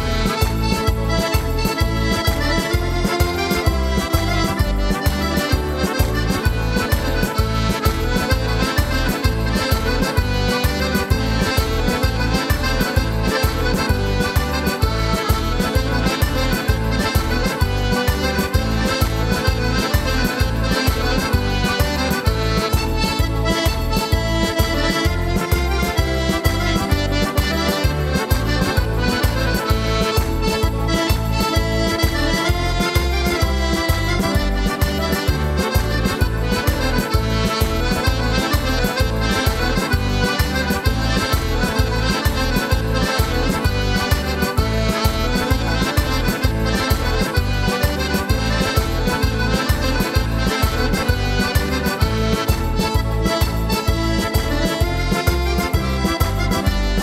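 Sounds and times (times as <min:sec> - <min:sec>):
accordions playing a lively tune: 0:00.0 - 0:57.0.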